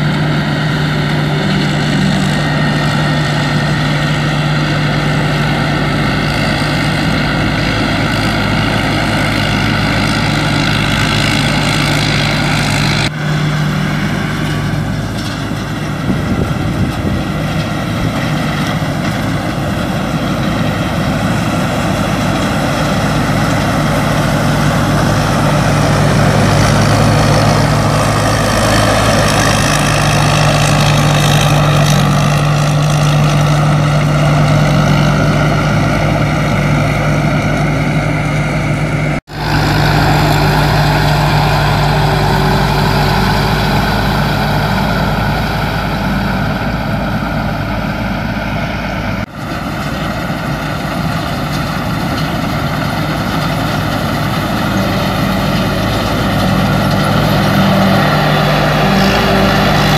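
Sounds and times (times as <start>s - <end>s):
combine harvester engine humming: 0.0s - 59.9s.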